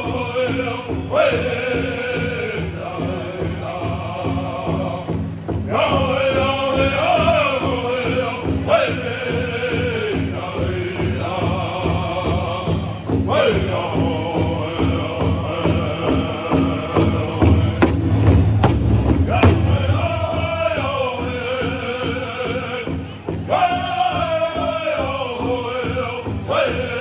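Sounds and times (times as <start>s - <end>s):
group singing in high voices: 0.0s - 18.2s, 19.2s - 27.0s
large drum beating: 0.0s - 27.0s.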